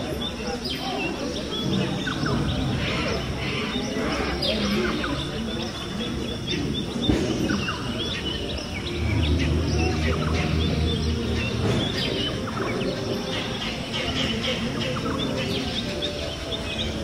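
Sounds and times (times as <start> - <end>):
bird chirps and calls: 0.0 - 17.0.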